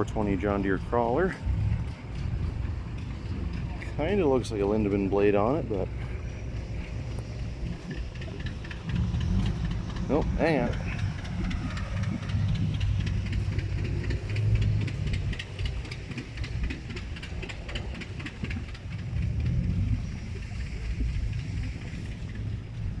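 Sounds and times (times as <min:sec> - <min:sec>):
engine running: 0:00.0 - 0:23.0
rapid mechanical ticking: 0:00.0 - 0:23.0.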